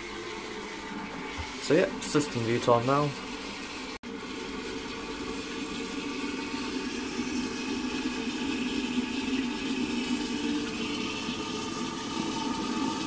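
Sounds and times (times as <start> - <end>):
water rushing into a cistern: 0.0 - 13.0.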